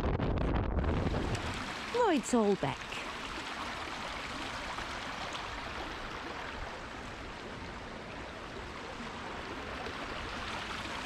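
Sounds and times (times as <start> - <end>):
stream running over rocks: 1.0 - 11.0.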